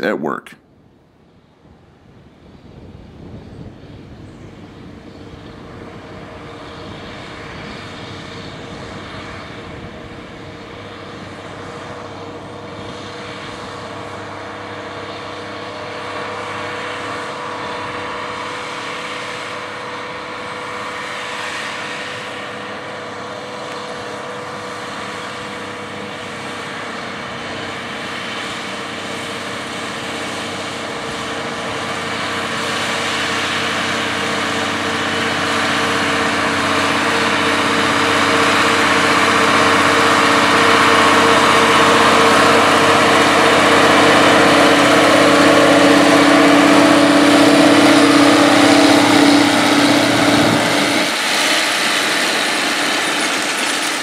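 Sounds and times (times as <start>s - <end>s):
tractor diesel engine running: 3.8s - 54.0s.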